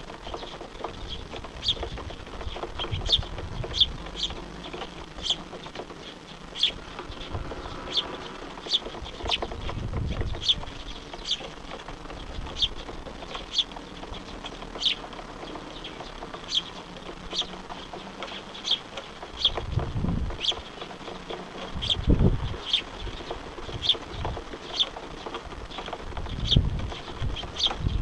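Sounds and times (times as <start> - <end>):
low rumbles: 0.0 - 28.0
bird chirping: 0.1 - 19.7, 20.3 - 28.0.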